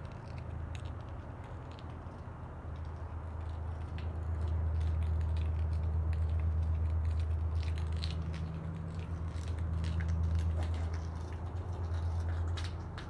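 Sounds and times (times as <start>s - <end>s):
light clicks and crackles: 0.0s - 13.0s.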